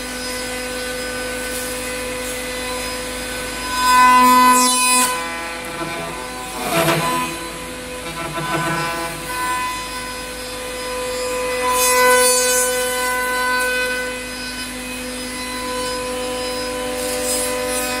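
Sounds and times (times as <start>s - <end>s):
router spindle whine: 0.0s - 18.0s.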